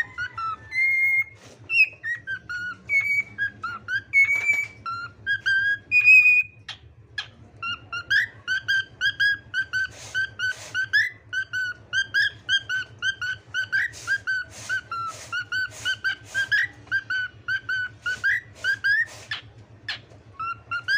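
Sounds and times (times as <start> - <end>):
cockatiel whistling: 0.0 - 20.9.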